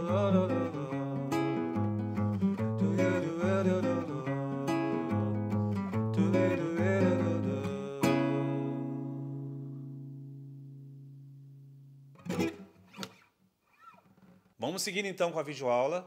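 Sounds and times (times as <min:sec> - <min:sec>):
nylon-string acoustic guitar: 0:00.0 - 0:14.5.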